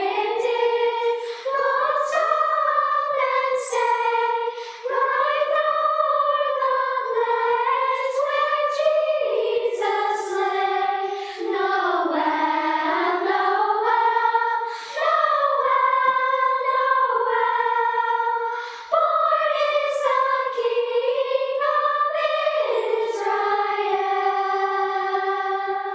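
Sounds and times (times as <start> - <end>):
choir singing in unison: 0.0 - 25.9.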